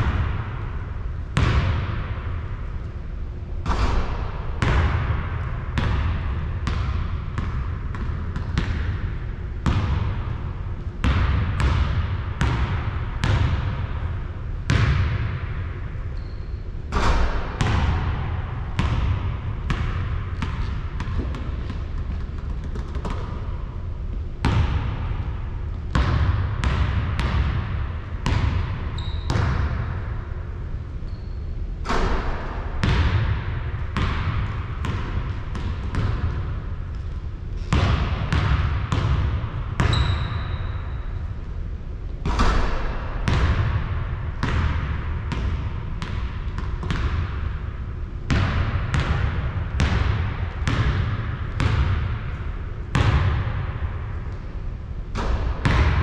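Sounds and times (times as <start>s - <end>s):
basketball bouncing on hard court: 0.0s - 0.6s, 1.3s - 2.2s, 3.6s - 30.0s, 31.1s - 41.2s, 42.2s - 47.7s, 48.3s - 54.4s, 55.2s - 56.0s.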